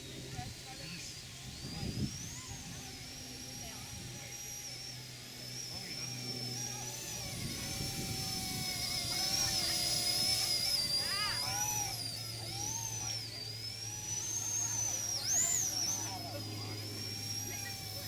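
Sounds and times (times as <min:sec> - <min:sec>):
toy helicopter whining: 0:00.0 - 0:18.0.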